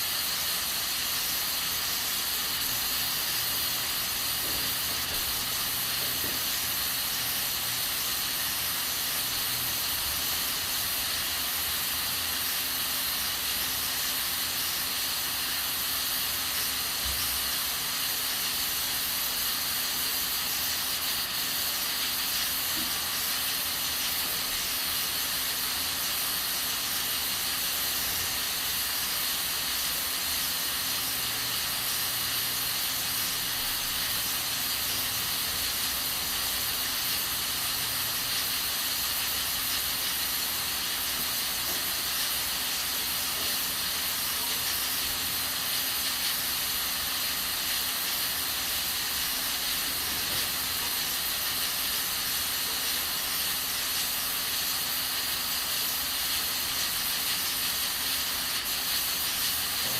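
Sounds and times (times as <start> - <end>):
pressure cooker hissing steam: 0.0 - 59.9.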